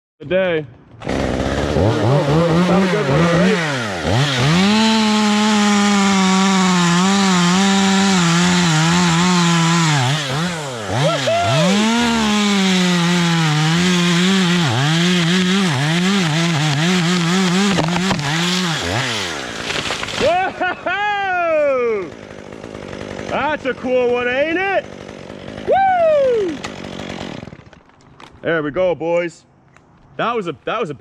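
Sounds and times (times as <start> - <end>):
chainsaw cutting limb: 0.9 - 20.7, 22.0 - 25.7, 26.3 - 28.4.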